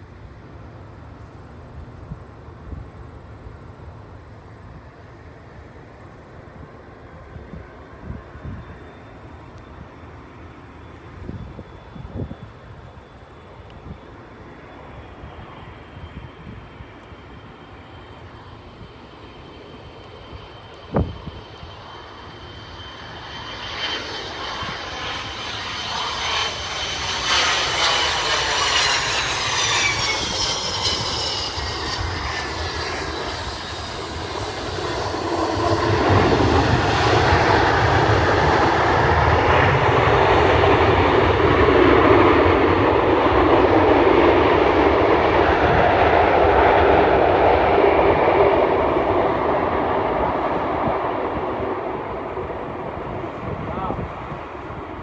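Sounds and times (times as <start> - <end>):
jet engine roar: 0.0 - 55.0
jet engine whine: 0.0 - 55.0.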